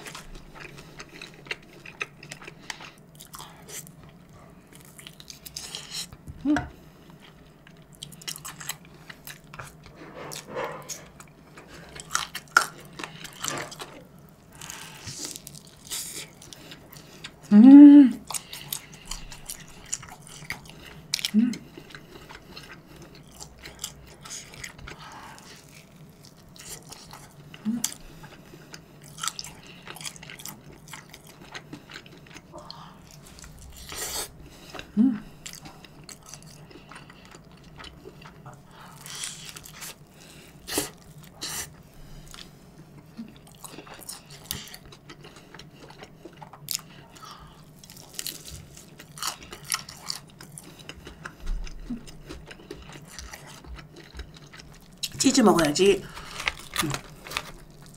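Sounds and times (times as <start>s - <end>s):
chewing and biting pizza: 0.0s - 6.2s, 7.0s - 17.5s, 18.2s - 55.2s, 55.9s - 57.9s.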